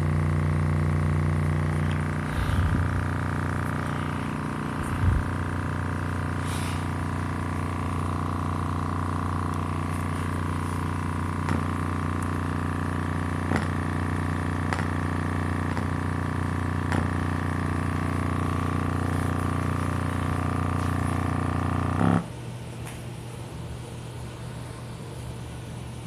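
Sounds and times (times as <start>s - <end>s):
buzzy low speaker tone: 0.0s - 22.3s.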